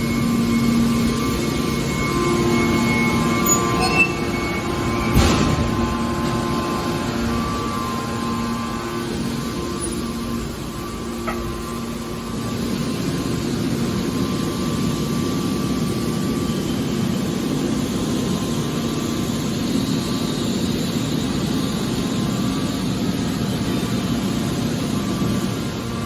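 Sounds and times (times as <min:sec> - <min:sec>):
heavy machinery low drone: 0:00.0 - 0:26.0.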